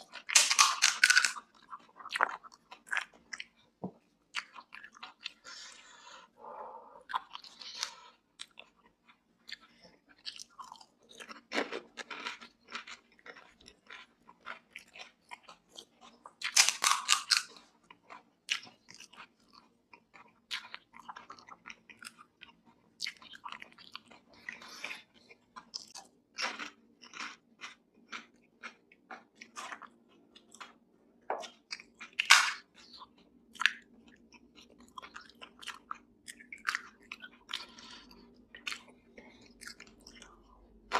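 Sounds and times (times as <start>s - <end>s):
chewing and crunching: 0.0s - 6.2s, 7.0s - 40.9s.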